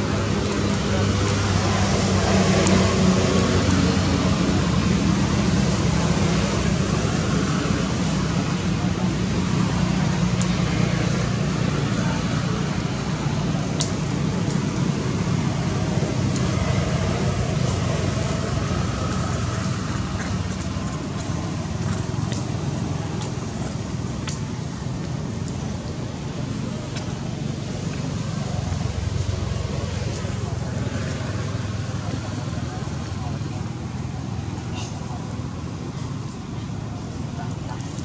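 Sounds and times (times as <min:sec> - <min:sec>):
outdoor rumble with hiss: 0:00.0 - 0:38.0.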